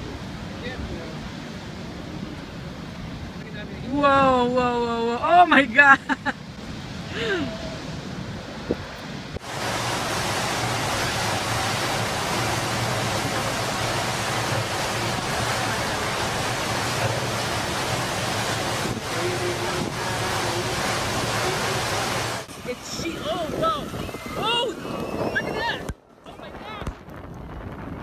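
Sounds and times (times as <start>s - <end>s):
heavy rain: 0.0s - 28.0s
storm wind: 0.0s - 28.0s
wind buffeting microphone: 0.0s - 28.0s.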